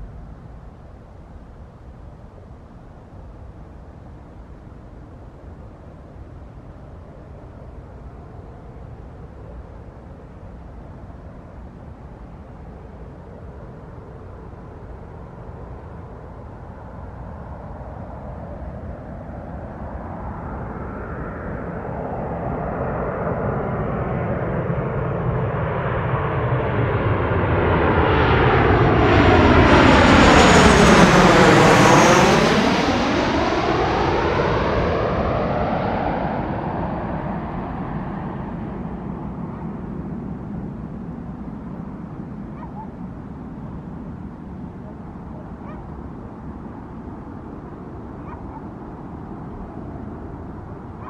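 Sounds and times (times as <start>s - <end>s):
jet airliner passing overhead: 0.0s - 51.0s.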